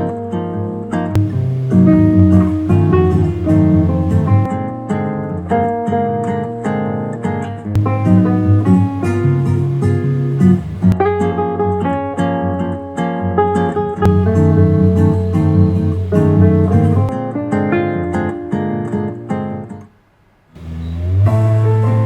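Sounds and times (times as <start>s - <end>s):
guitar music through a speaker: 0.0s - 19.9s, 20.6s - 22.0s.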